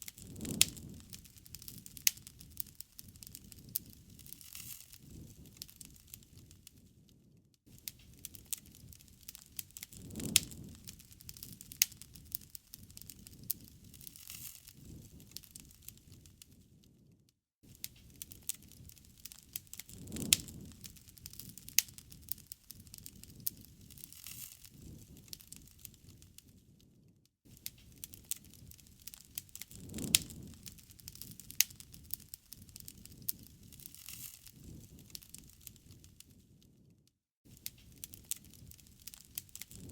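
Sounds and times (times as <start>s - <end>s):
wood fire crackling and popping: 0.0s - 17.1s, 17.7s - 39.9s
low rumble of flame: 0.0s - 39.9s.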